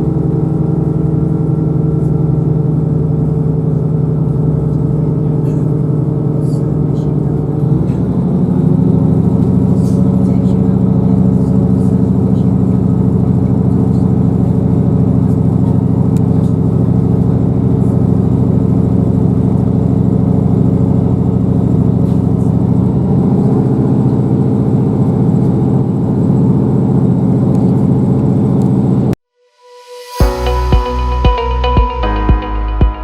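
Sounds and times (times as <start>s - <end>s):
train diesel engine running: 0.0s - 29.2s.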